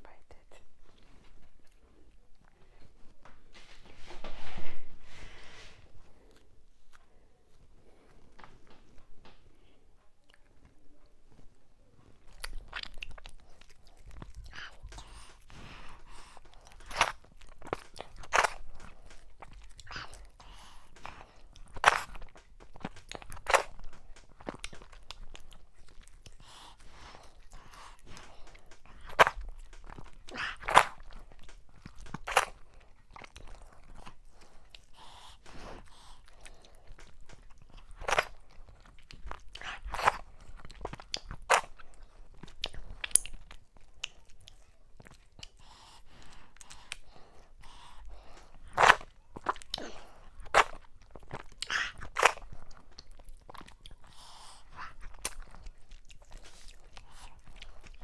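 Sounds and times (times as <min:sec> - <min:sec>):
chewing and lip smacking: 0:00.3 - 0:03.0, 0:09.5 - 0:11.5, 0:12.1 - 0:58.0.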